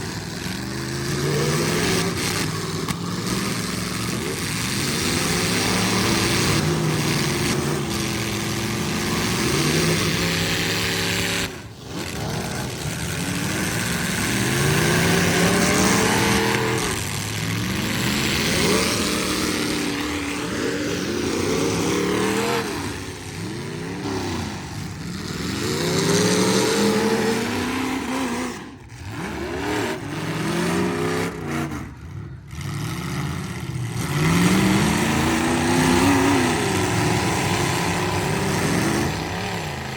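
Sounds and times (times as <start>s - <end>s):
truck engines revving hard: 0.0s - 39.9s.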